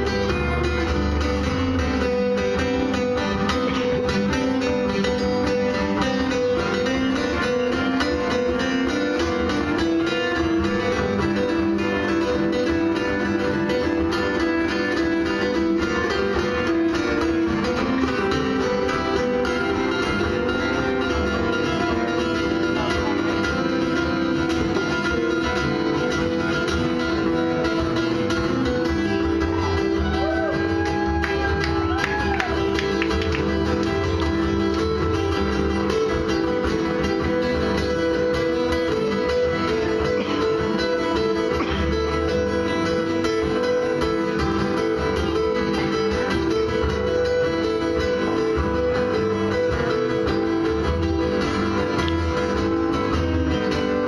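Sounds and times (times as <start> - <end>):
acoustic guitars playing: 0.0 - 54.0.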